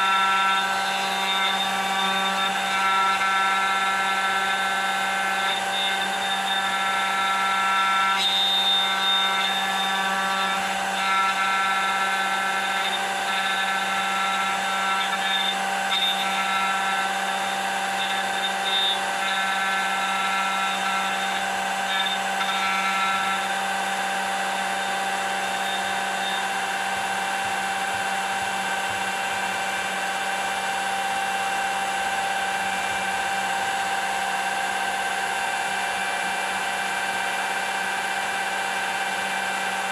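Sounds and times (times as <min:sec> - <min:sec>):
router bit cutting wood: 0:00.0 - 0:39.9
router whining: 0:00.0 - 0:39.9.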